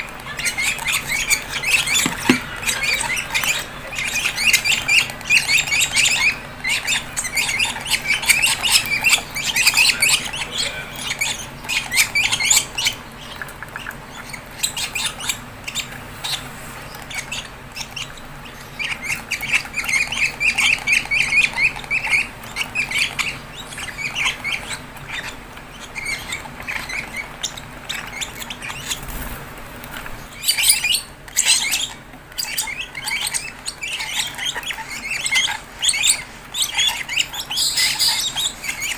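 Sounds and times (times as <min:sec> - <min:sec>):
bird chicks begging squawks: 0:00.0 - 0:38.9.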